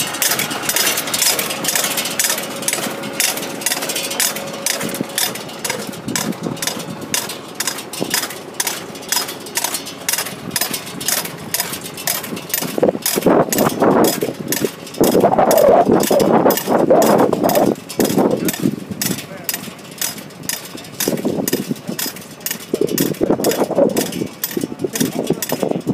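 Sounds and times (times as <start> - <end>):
planter mechanism clicking and clatter: 0.0 - 25.9
tractor engine running: 0.0 - 25.9.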